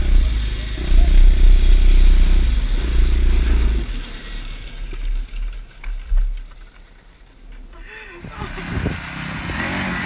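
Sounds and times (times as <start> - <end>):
small motorcycle engine running: 0.0 - 7.3, 8.1 - 10.0.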